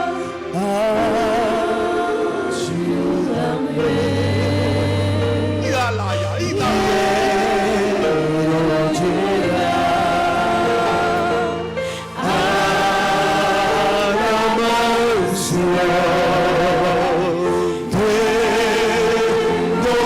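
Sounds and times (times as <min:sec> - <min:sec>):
worship music with singing: 0:00.0 - 0:20.0.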